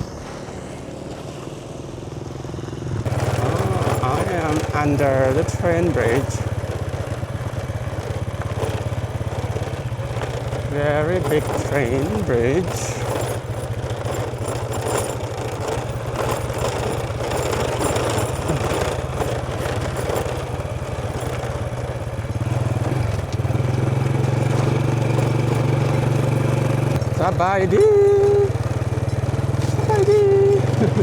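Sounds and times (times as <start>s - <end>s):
motorbike engine running: 0.0s - 31.0s.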